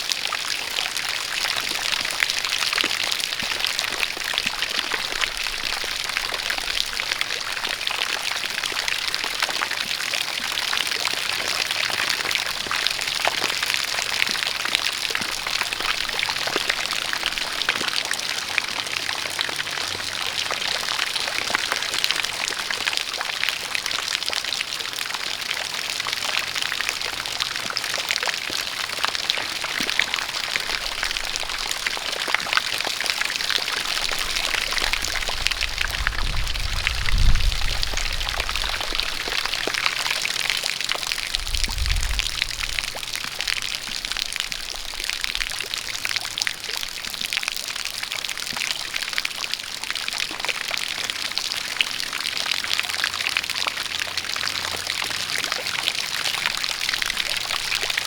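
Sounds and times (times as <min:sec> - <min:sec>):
jet of water pouring: 0:00.0 - 0:58.0
steady rain: 0:00.0 - 0:58.0.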